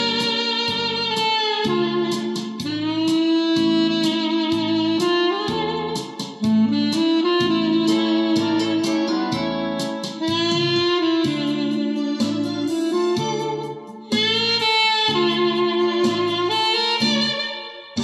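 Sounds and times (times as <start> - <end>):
backing beat: 0.0 - 18.0
saxophone melody: 0.0 - 18.0.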